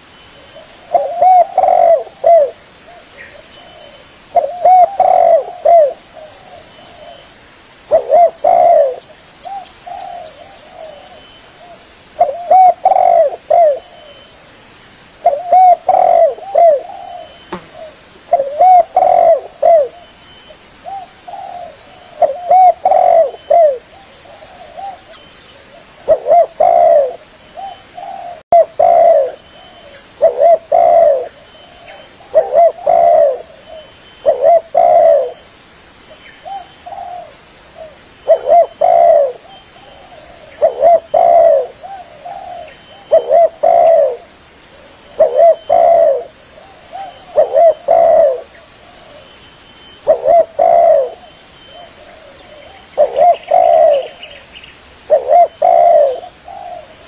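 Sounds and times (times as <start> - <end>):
dove cooing: 0.6 - 7.3, 7.9 - 14.3, 15.2 - 20.2, 20.8 - 35.4, 36.4 - 49.3, 50.0 - 54.4, 55.0 - 57.0.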